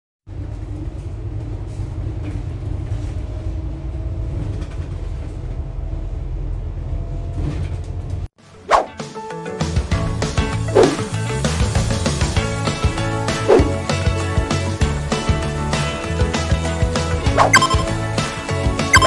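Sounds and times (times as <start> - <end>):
bus engine rumble: 0.3 - 8.4, 10.0 - 18.9.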